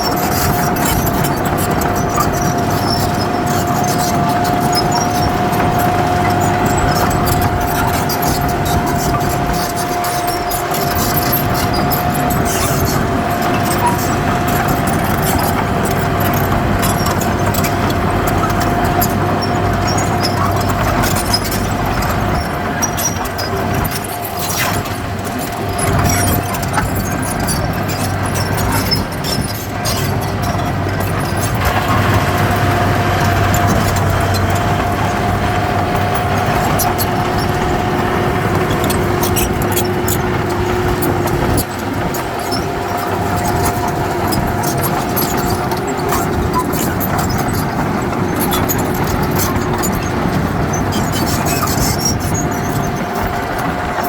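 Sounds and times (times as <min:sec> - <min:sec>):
diesel machinery engine running: 0:00.0 - 0:54.0.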